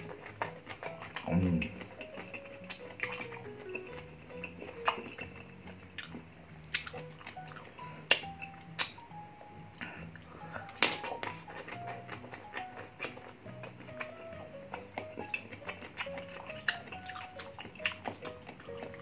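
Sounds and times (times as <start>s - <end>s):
crunchy biting and chewing: 0.0s - 19.0s
quiet background music: 0.0s - 19.0s.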